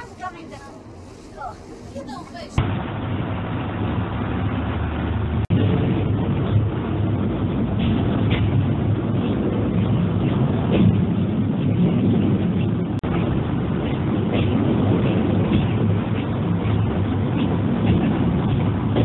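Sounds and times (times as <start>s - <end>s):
railcar rumbling on track: 0.0s - 2.6s, 3.6s - 19.0s.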